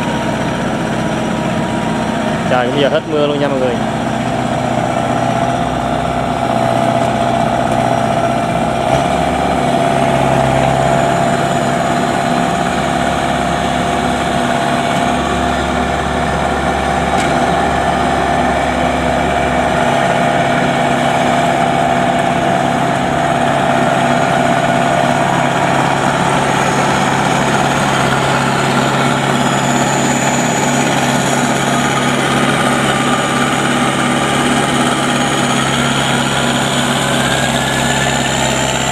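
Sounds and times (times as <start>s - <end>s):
harvester engine running: 0.0s - 38.9s.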